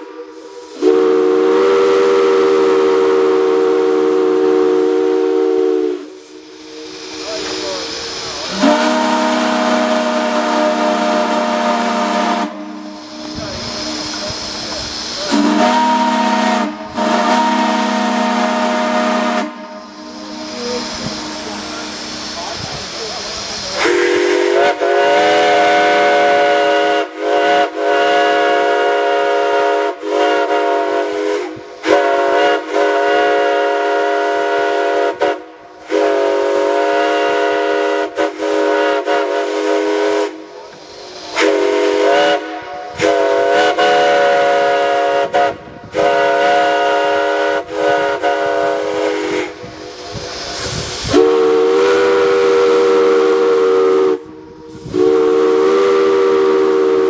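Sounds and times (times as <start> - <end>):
lower-pitched whistle: 0.0 - 22.6, 23.6 - 57.0
chime steam whistle blasts: 0.0 - 57.0
steam hissing: 0.0 - 57.0.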